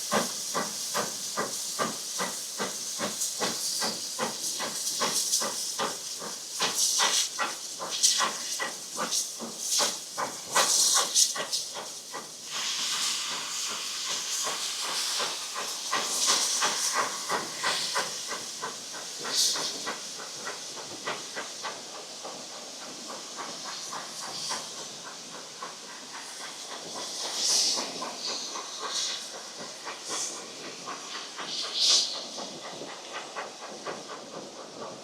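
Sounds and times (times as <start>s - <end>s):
hissing steam: 0.0s - 35.0s
steam locomotive exhaust beats: 0.0s - 35.0s.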